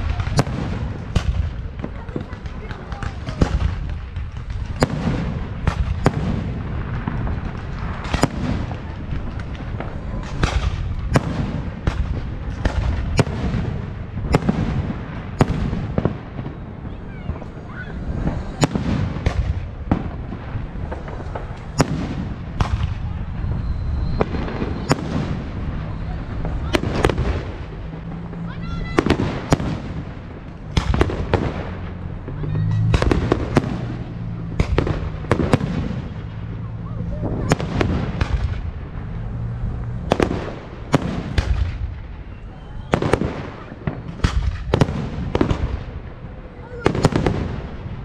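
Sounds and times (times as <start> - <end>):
fireworks bursting with sharp bangs: 0.0 - 48.0
low rumble of fireworks show: 0.0 - 48.0.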